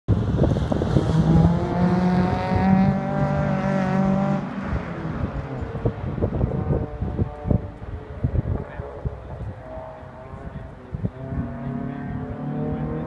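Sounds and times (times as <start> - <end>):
car engine accelerating hard: 0.1 - 13.0.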